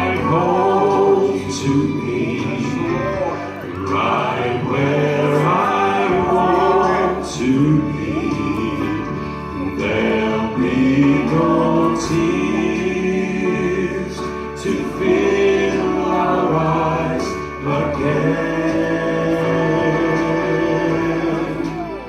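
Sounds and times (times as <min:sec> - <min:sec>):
choir singing gospel: 0:00.0 - 0:22.0
instrumental accompaniment: 0:00.0 - 0:22.0.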